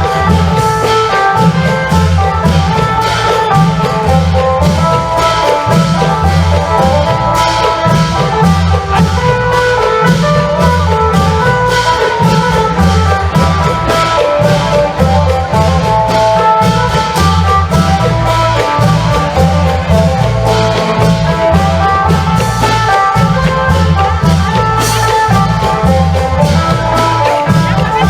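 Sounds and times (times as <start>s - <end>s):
long drums beating a rhythm: 0.0s - 28.0s
lute melody: 0.0s - 28.0s.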